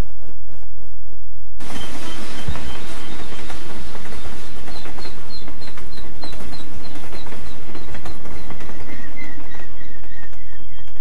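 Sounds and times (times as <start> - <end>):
train wheels clattering on rails: 1.7 - 11.0.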